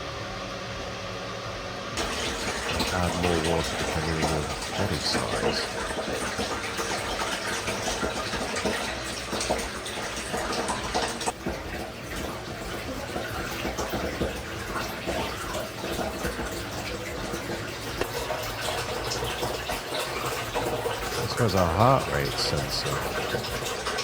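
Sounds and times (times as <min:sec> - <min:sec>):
water rushing into machine: 0:02.0 - 0:24.0.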